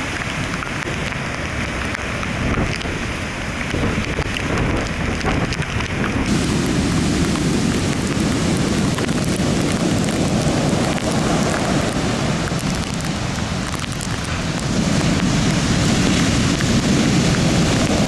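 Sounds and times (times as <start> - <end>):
driving rain: 0.0 - 18.0
hurricane-force wind: 0.0 - 18.0
wind buffeting microphone: 0.0 - 18.0.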